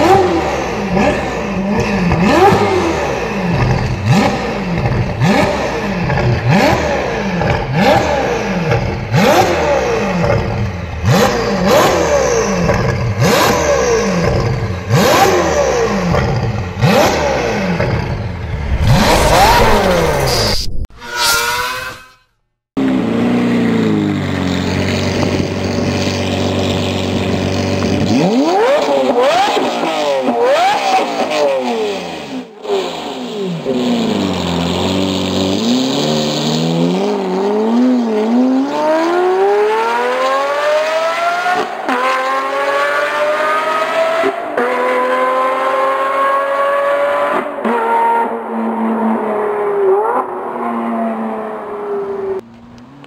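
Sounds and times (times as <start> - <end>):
car engine idling and revving: 0.0 - 20.9, 22.8 - 53.0
car accelerating hard: 0.0 - 21.9, 22.8 - 53.0.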